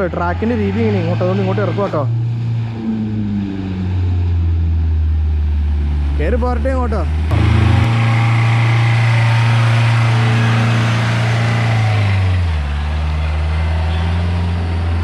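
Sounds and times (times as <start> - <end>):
off-road vehicle engine under load: 0.0 - 15.0.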